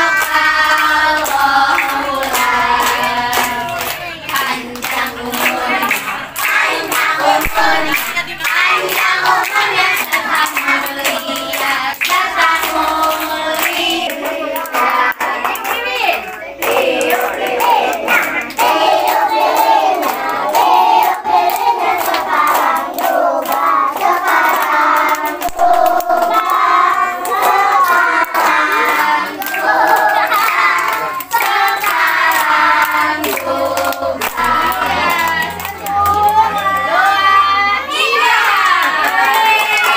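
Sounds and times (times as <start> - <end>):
group singing birthday song: 0.0 - 39.9
people clapping: 0.0 - 39.9.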